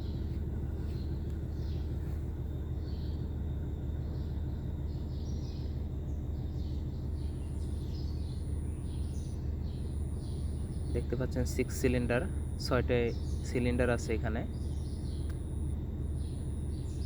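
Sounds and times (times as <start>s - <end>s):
low machinery hum: 0.0s - 17.0s
small birds chirping: 0.0s - 17.0s.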